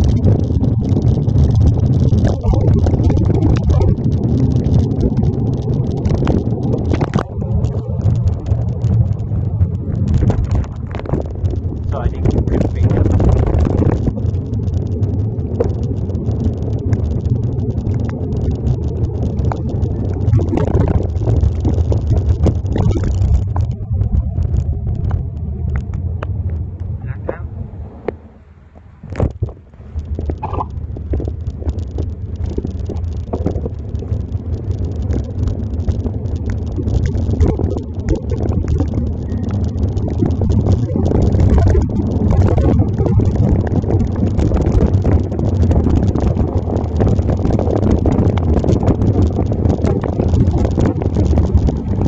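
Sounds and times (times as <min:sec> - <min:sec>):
crackles and ticks: 0:00.0 - 0:27.4, 0:29.0 - 0:52.0
wind buffeting microphone: 0:00.0 - 0:52.0.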